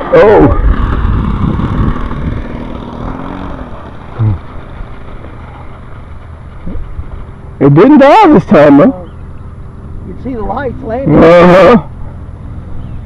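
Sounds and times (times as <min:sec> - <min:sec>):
low rumble: 0:00.0 - 0:13.0
model plane engine running: 0:00.0 - 0:13.0.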